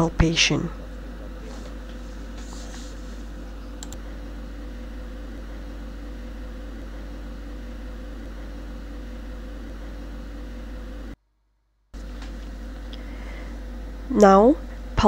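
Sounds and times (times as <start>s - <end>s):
low electrical hum: 0.0s - 11.2s, 12.0s - 15.0s.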